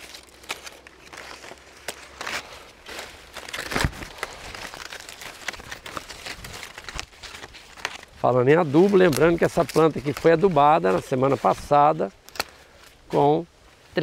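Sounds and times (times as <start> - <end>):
branches snapping: 0.0 - 13.0
foliage and twigs rustling: 0.0 - 14.0.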